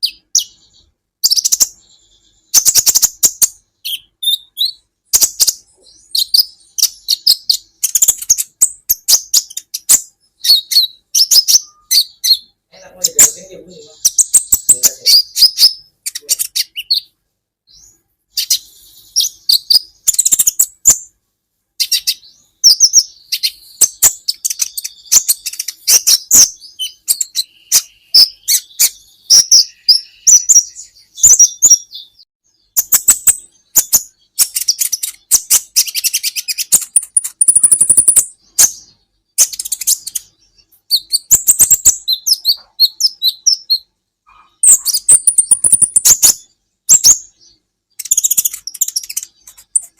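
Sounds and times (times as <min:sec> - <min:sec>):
sunbird chirps and trills: 0:00.0 - 0:21.2, 0:21.8 - 0:49.9.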